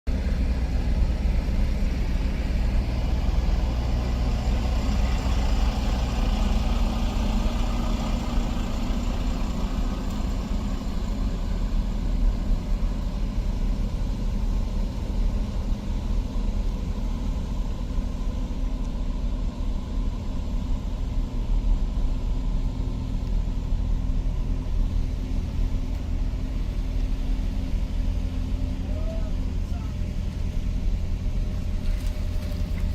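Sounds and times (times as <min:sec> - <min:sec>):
vehicle engine rumbling: 0:00.1 - 0:32.9.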